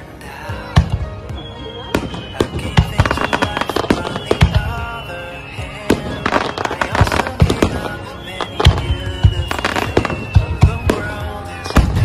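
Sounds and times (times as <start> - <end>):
background music: 0.0 - 12.0
fireworks bangs and crackles: 0.5 - 12.0.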